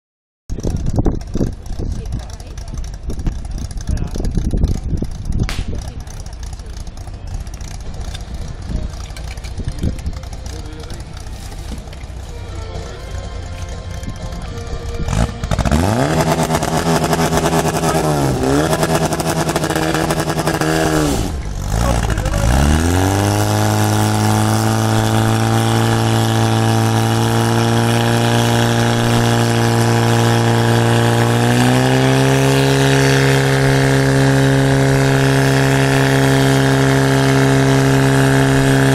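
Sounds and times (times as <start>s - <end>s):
fire pump engine revving: 0.5s - 38.9s.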